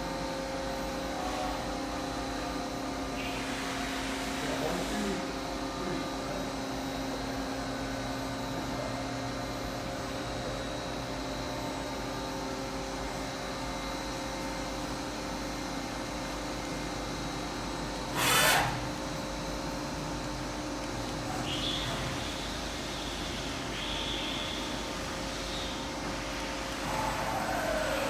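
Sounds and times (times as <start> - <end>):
machine humming with constant tones: 0.0 - 28.0.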